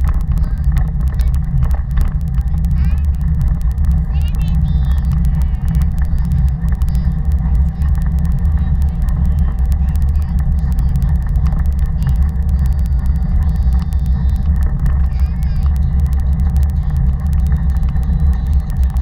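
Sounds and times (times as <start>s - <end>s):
wind buffeting rumble: 0.0s - 19.0s.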